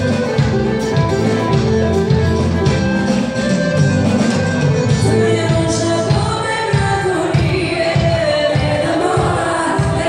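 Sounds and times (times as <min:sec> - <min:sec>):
loud music: 0:00.0 - 0:10.0.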